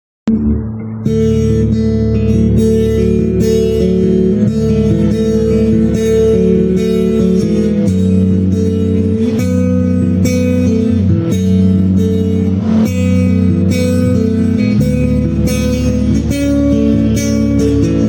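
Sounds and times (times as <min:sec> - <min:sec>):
low bass notes: 0:00.3 - 0:18.0
picked acoustic guitar arpeggios: 0:00.3 - 0:18.0.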